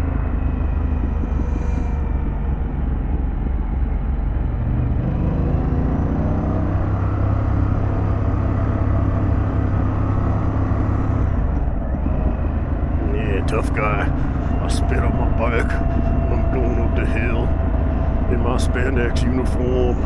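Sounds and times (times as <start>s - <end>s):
motorcycle engine running: 0.0s - 20.0s
road rumble: 0.0s - 20.0s.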